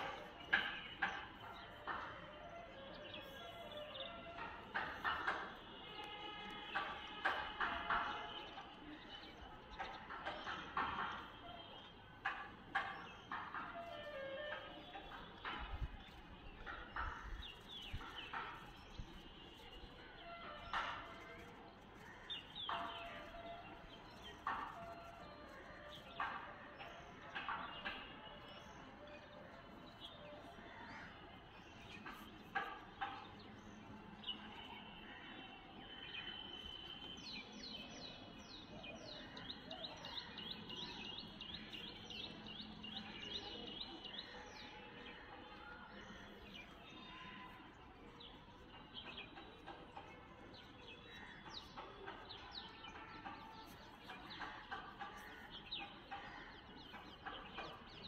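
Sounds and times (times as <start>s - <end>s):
birds chirping: 0.0s - 58.0s
faint outdoor background noise: 0.0s - 58.0s.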